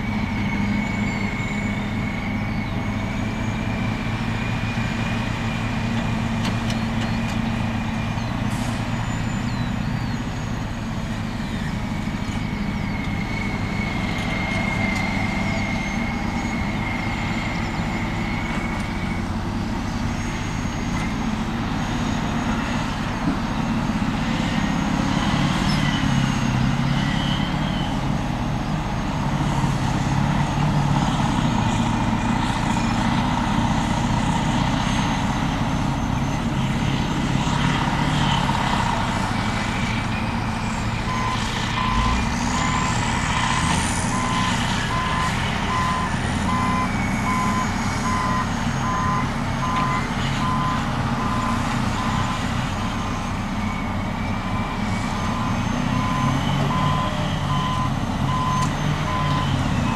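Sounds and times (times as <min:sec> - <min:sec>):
diesel engine under load: 0:00.0 - 0:59.9
reversing alarm beeping: 0:07.6 - 0:59.9.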